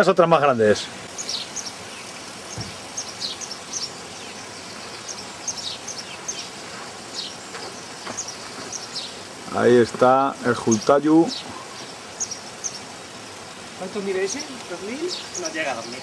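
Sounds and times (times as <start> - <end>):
small birds chirping: 0.0 - 16.0
steady outdoor hiss: 0.0 - 16.0.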